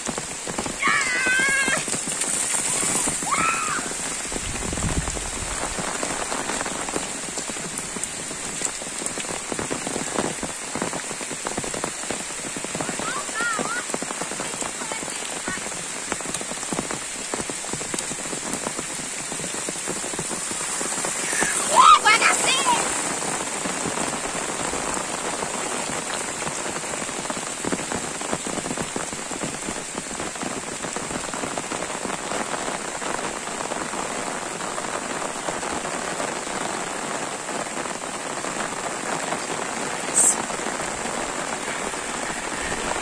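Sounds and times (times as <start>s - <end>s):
rain pattering on foliage: 0.0s - 43.0s.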